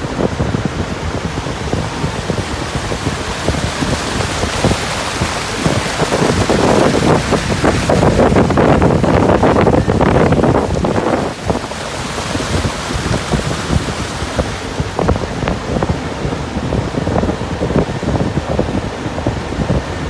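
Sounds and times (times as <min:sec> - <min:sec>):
water rushing past hull: 0:00.0 - 0:20.0
wind buffeting microphone: 0:00.0 - 0:20.0.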